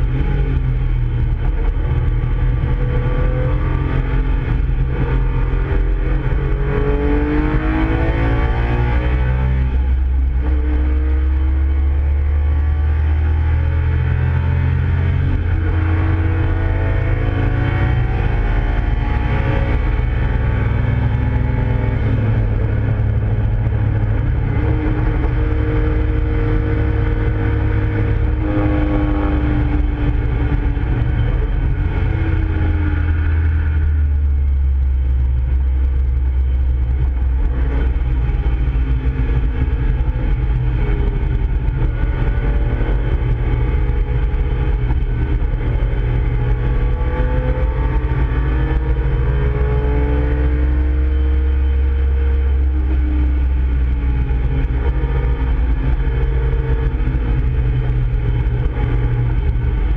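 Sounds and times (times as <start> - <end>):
car engine revving in cabin: 0.0 - 59.9.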